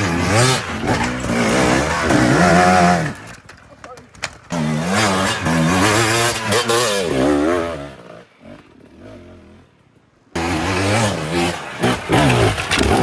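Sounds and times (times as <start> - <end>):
dirt bike engine revving: 0.0 - 3.5, 4.4 - 13.0.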